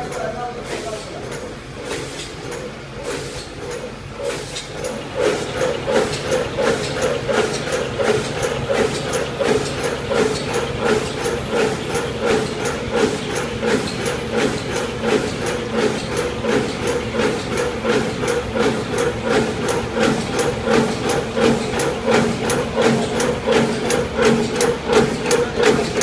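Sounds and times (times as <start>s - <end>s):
machine clacking rhythmically: 0.0s - 26.0s.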